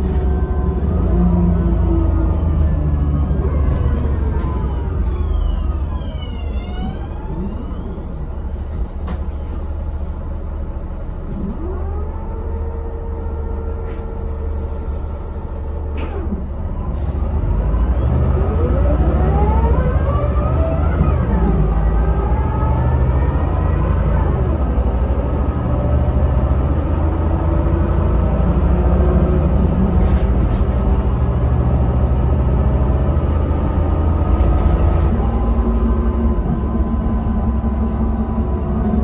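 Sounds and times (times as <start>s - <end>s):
bus engine and gearbox whine: 0.0s - 39.0s.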